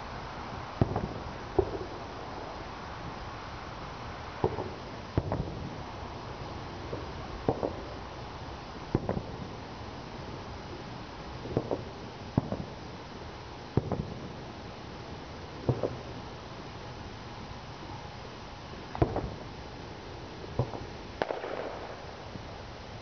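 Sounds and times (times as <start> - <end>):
distant fireworks booming: 0.0 - 16.6, 18.8 - 19.8, 20.4 - 23.0
background hiss: 0.0 - 23.0.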